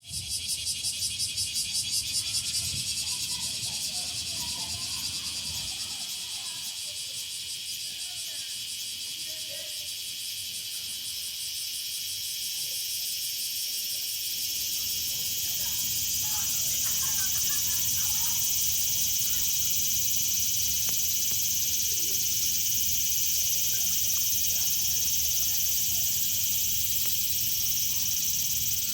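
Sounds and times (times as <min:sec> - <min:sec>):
cicadas shrilling: 0:00.0 - 0:28.9.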